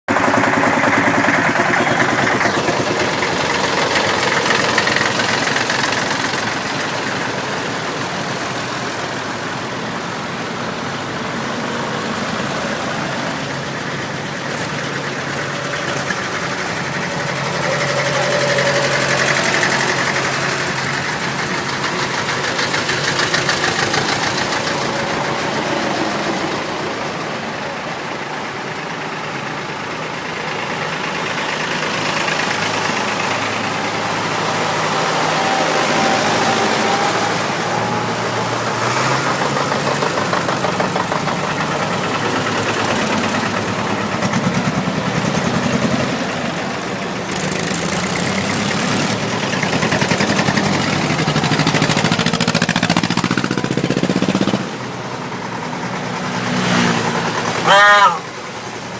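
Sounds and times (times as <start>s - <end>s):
tractor engines running: 0.0s - 58.9s.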